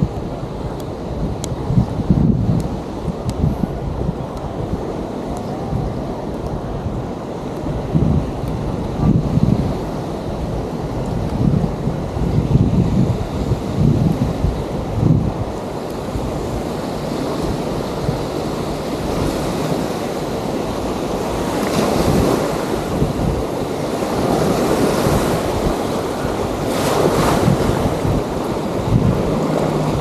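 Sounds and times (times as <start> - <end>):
small waves washing onto sand: 0.0 - 30.0
wind rumbling on microphone: 0.0 - 30.0.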